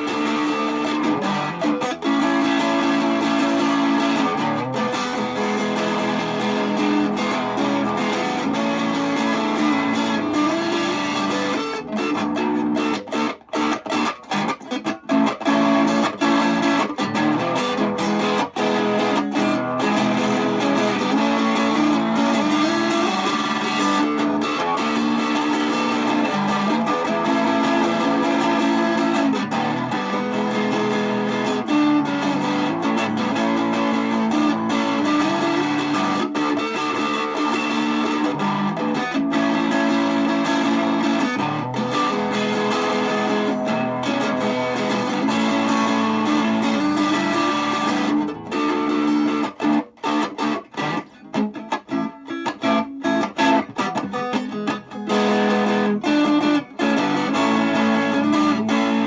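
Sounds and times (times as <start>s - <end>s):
guitar-led music: 0.0s - 59.0s.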